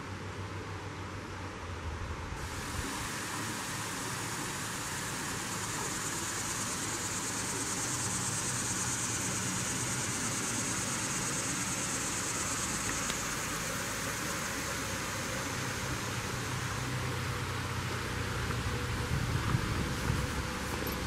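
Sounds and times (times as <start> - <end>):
insects buzzing: 2.4 - 21.0
water rushing over spillway: 2.4 - 21.0.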